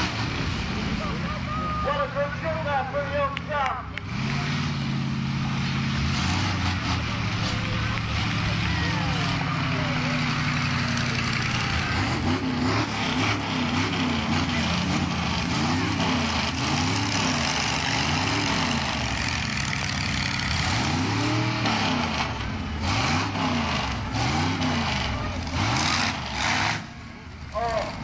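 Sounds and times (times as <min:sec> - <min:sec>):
truck engines idling and revving: 0:00.0 - 0:28.0.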